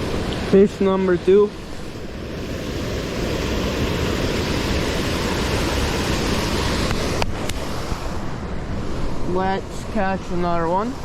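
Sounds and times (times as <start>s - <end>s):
water rushing over small dam: 0.0s - 11.0s.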